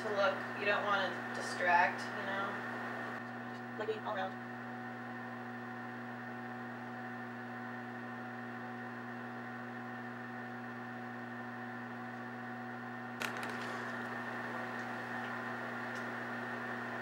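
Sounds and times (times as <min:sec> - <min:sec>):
electrical hum with hiss: 0:00.0 - 0:17.0.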